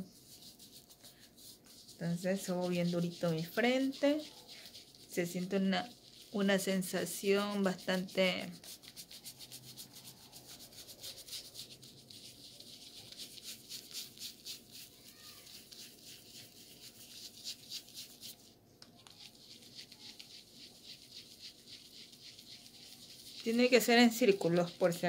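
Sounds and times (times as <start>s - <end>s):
brush scrubbing lathered skin: 0.0s - 25.0s.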